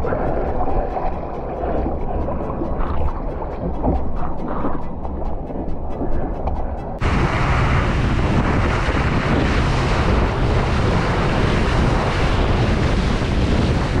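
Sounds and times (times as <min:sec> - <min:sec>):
water rushing along boat hull: 0:00.0 - 0:14.0
wind buffeting microphone: 0:00.0 - 0:14.0.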